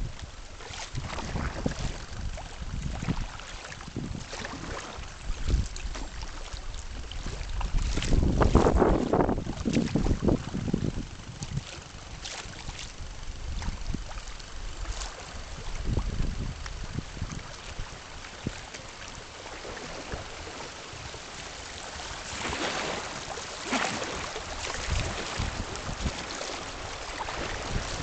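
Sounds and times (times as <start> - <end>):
river water rippling and gurgling: 0.0 - 28.0
wind rumble on microphone: 0.0 - 28.0.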